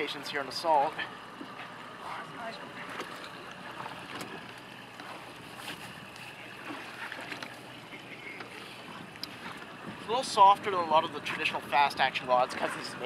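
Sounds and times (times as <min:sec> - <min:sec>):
water lapping against hull: 0:00.0 - 0:13.0.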